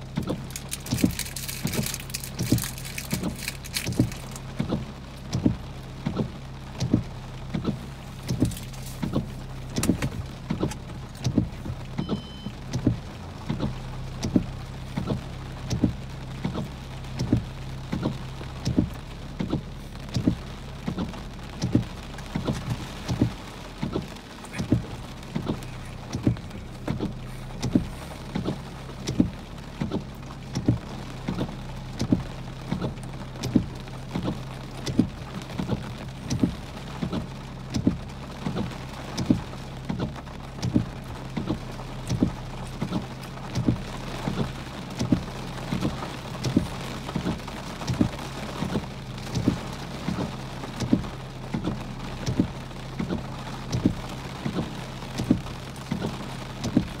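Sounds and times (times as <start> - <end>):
heavy rain on a car: 0.0 - 57.0
regular low thump: 1.7 - 57.0.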